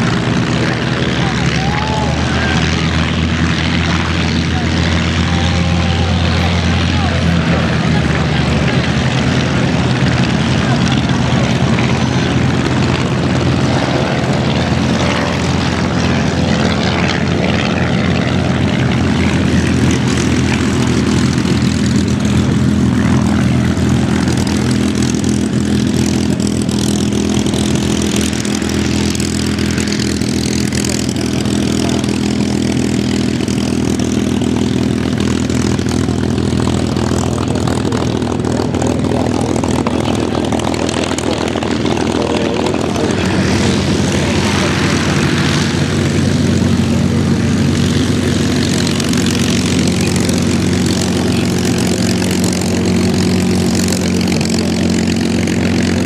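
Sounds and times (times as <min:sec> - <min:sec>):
piston aircraft engines running: 0:00.0 - 0:56.0.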